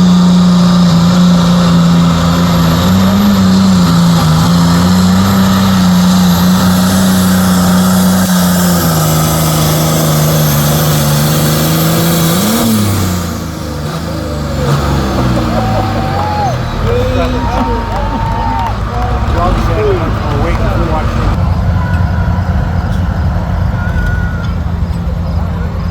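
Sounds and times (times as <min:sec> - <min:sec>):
vehicle engine running hard: 0:00.0 - 0:25.9.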